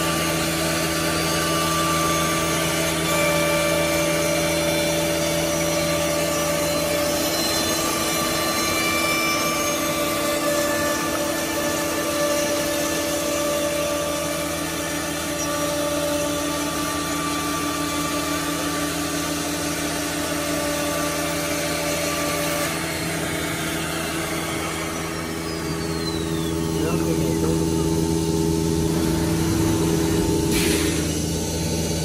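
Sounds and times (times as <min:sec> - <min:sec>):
router machine drone with whine: 0:00.0 - 0:32.0.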